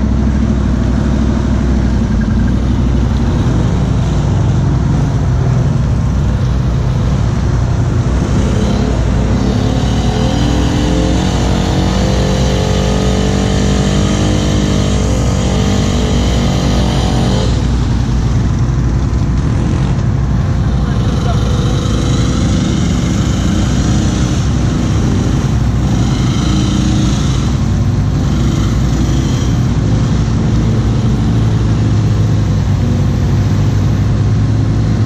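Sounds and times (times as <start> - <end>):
atv engine running and revving: 0.0 - 35.0.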